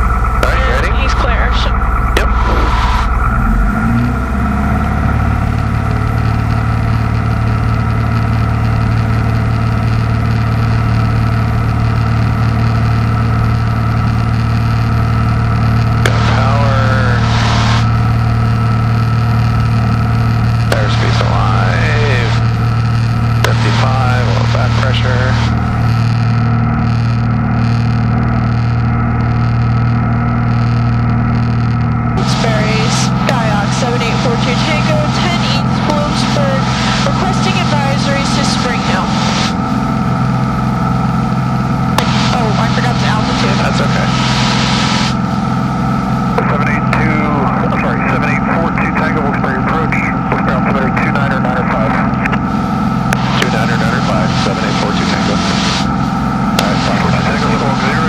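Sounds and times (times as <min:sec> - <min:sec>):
airplane engine droning: 0:00.0 - 0:58.0.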